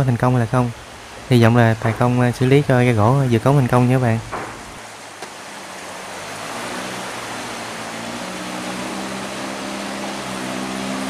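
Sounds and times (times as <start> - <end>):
boat engine droning: 0.0 - 11.0
rushing water: 0.0 - 11.0.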